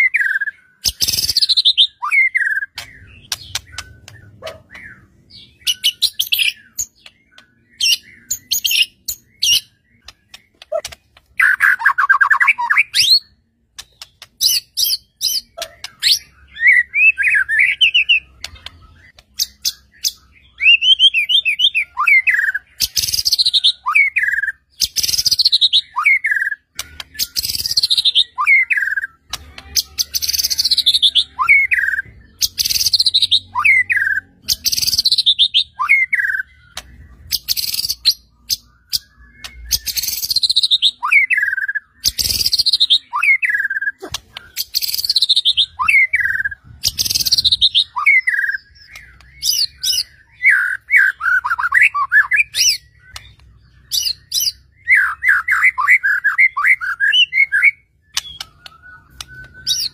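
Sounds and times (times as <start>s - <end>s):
bird singing whistle and rasp: 0.0s - 29.3s, 30.0s - 59.9s.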